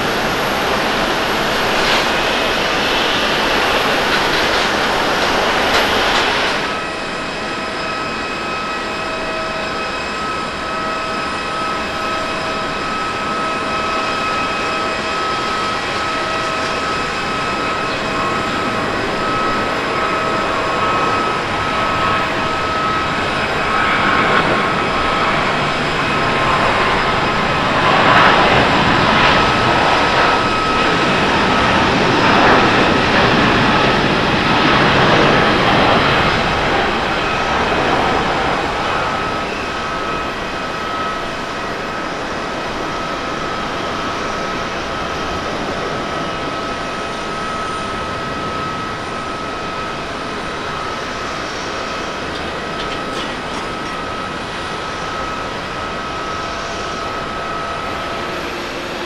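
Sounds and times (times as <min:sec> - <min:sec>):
jet engine roar: 0:00.0 - 0:59.0
jet engines whining: 0:00.0 - 0:59.0.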